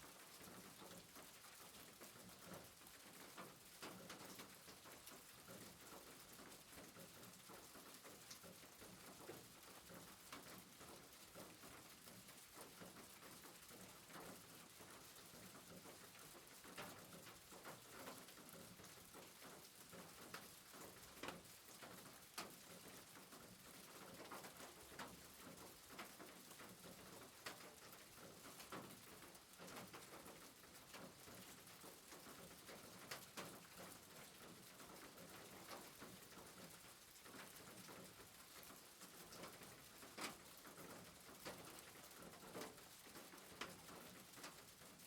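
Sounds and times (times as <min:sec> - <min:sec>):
faint soft rain hiss: 0:00.0 - 0:45.0
raindrop ticks: 0:00.1 - 0:45.0.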